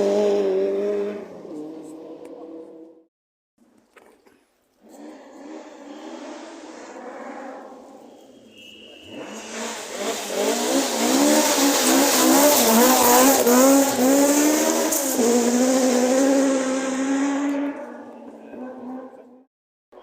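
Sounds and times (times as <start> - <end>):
rally car engine revving: 0.0 - 3.0, 4.8 - 19.5.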